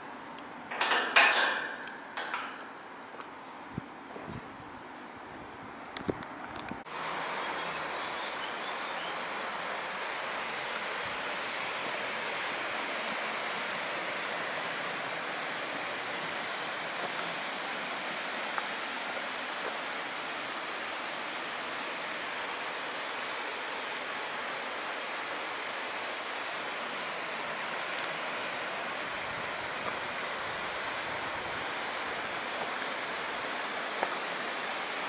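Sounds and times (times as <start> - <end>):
falling water rushing: 6.9 - 35.0.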